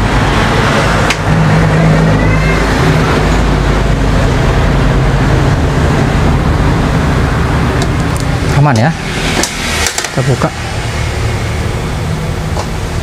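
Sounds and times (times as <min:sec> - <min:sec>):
busy road traffic: 0:00.0 - 0:13.0.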